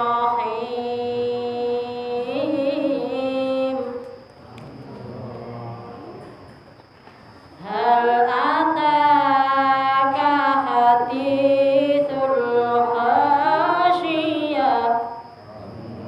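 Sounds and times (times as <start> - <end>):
woman chanting melodically: 0.0 - 6.2, 7.6 - 16.0.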